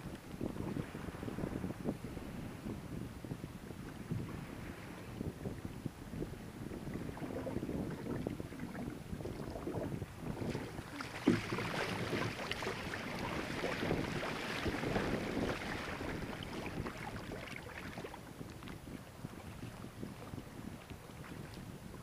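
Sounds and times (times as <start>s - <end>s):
water splashing along kayak hull: 0.0s - 22.0s
wind buffeting microphone: 0.0s - 22.0s.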